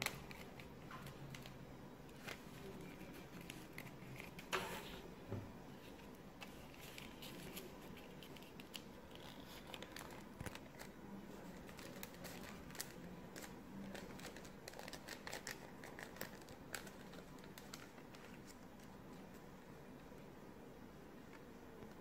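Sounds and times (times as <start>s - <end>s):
paper crinkling as it is folded: 0.0s - 5.0s, 5.8s - 20.1s.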